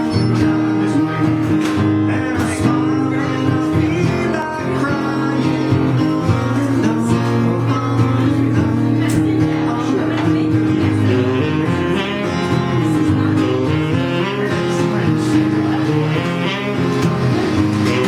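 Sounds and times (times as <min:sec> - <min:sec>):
acoustic guitar strumming: 0:00.0 - 0:18.0
man singing into microphone: 0:00.0 - 0:18.0.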